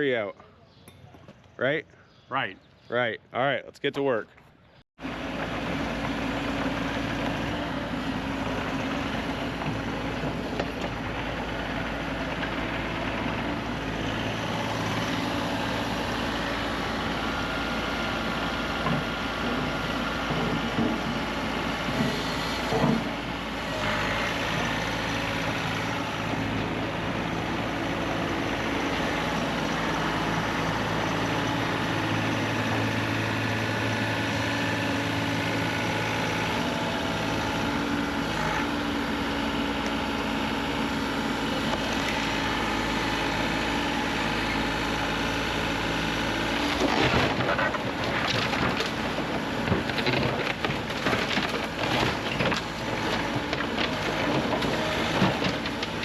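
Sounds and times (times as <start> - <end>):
diesel engine running: 5.0 - 56.0.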